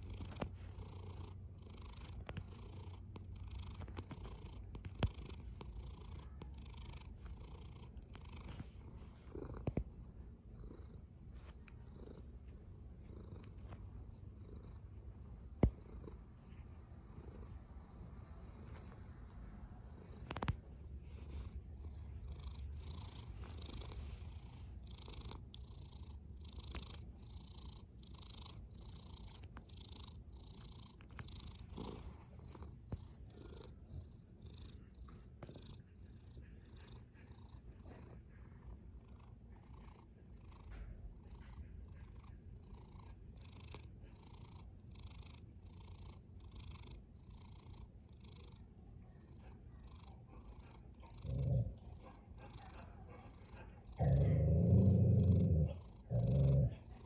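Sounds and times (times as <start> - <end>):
cat snoring: 0.0 - 48.6, 49.2 - 52.0, 54.0 - 57.0.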